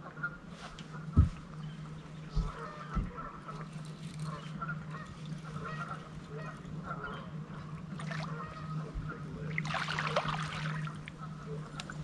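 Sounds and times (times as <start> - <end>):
birds honking: 0.0 - 12.0
steady low hum: 0.0 - 12.0.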